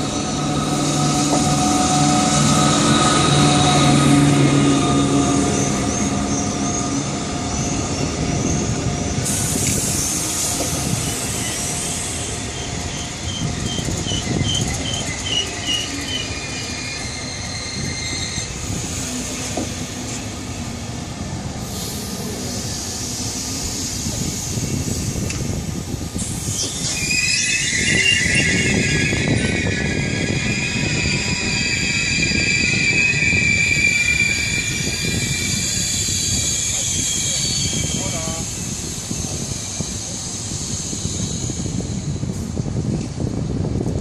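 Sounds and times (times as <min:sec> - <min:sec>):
train wheel squeals: 0:00.0 - 0:20.6, 0:21.6 - 0:42.4
train wheels rumbling on rails: 0:00.0 - 0:44.0.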